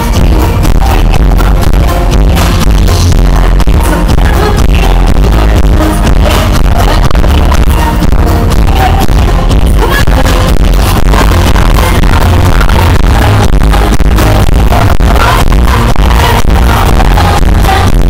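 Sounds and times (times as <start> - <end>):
electronic pop music with bass beat: 0.0 - 18.0.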